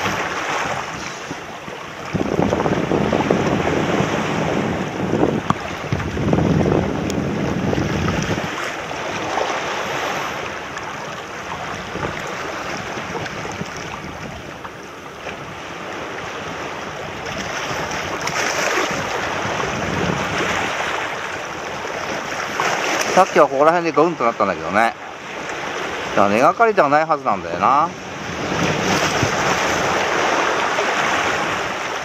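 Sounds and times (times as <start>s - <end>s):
wind buffeting microphone: 0.0s - 23.6s, 24.6s - 32.0s
small waves splashing over rocks: 0.0s - 27.1s, 28.1s - 32.0s.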